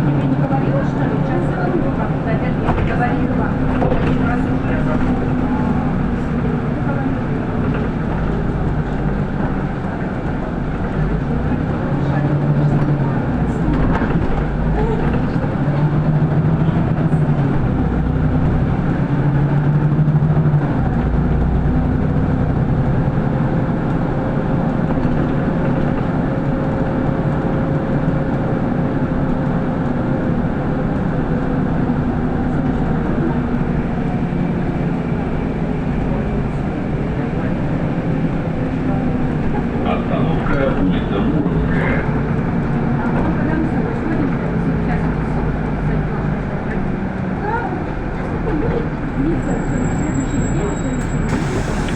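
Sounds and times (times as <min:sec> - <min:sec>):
bus engine running: 0:00.0 - 0:51.9.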